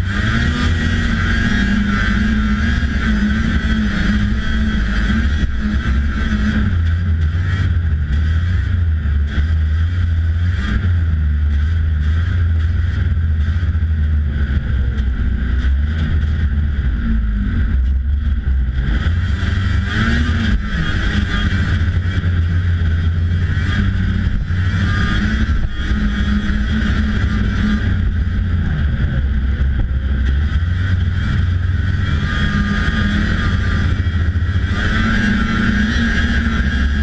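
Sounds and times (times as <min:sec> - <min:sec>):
snowmobile two-stroke engine running: 0:00.0 - 0:37.0.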